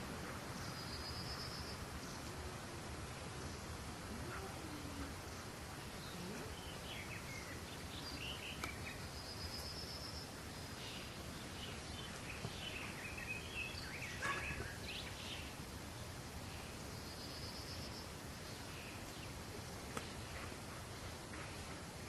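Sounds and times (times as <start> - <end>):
outdoor background hiss: 0.0 - 22.0
small songbirds chirping: 0.0 - 22.0.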